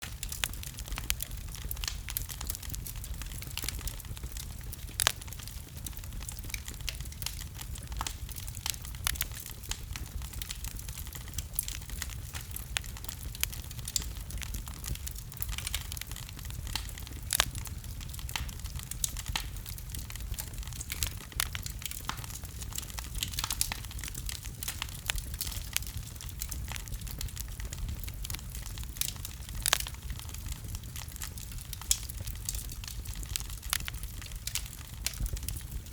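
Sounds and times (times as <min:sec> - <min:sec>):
fire crackling and popping: 0:00.0 - 0:35.9
low rumble of flames: 0:00.0 - 0:35.9.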